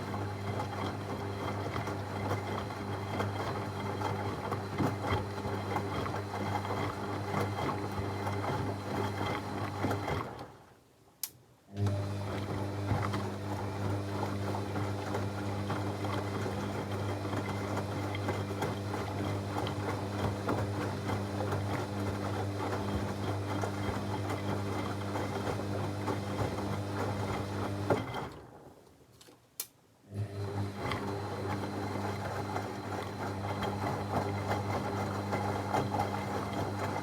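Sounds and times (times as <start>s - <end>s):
washing machine motor hum: 0.0s - 10.6s, 11.8s - 28.7s, 30.1s - 37.0s.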